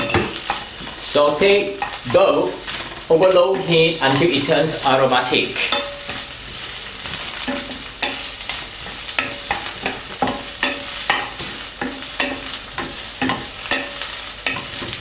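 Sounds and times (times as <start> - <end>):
oil sizzling: 0.0 - 15.0
wooden spatula scraping a pan: 0.3 - 15.0.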